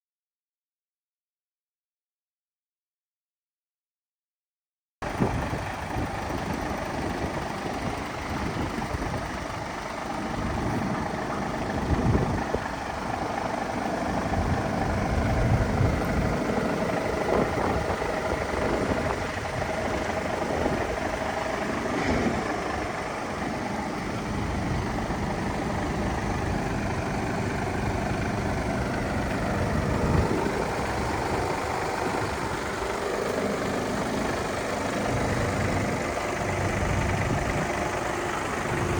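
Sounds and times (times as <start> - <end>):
diesel truck idling: 5.0 - 38.9.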